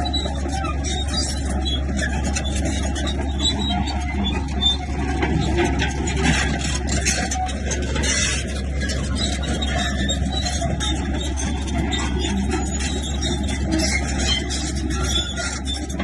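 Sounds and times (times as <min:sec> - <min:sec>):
diesel engine of heavy machinery: 0:00.0 - 0:16.0
irregular mechanical noise: 0:00.0 - 0:16.0.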